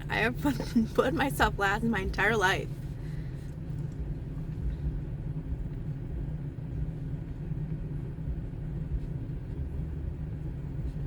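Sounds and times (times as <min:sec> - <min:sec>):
faint steady hum: 0:00.0 - 0:11.0
steady low rumble: 0:00.0 - 0:11.0.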